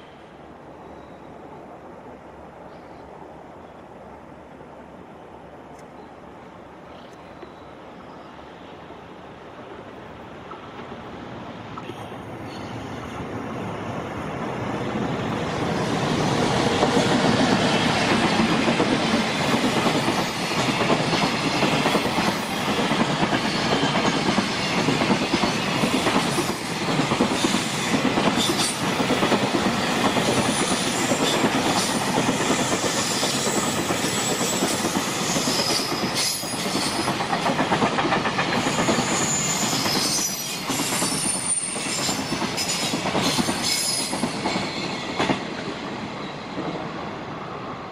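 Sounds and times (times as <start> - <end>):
freight train rumbling past: 7.6 - 47.9.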